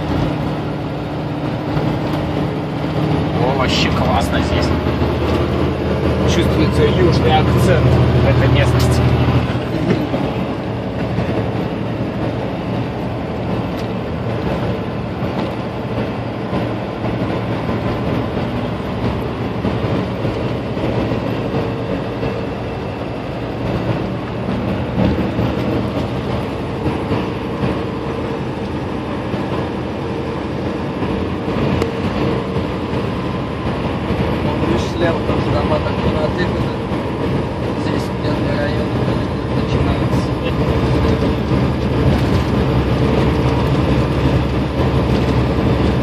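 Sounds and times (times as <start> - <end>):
truck engine and tyres droning: 0.0 - 46.0.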